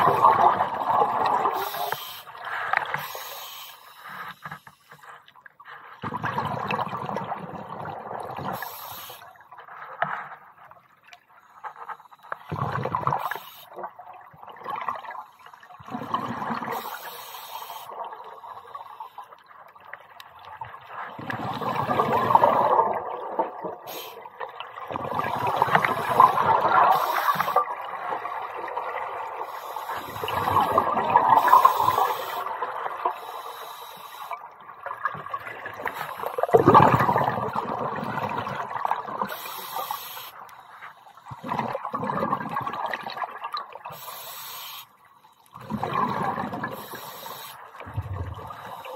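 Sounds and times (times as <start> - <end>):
exhaled bubbles underwater: 0.0 - 3.2, 6.0 - 10.0, 12.4 - 17.1, 17.7 - 40.5, 41.1 - 44.2, 45.5 - 48.9.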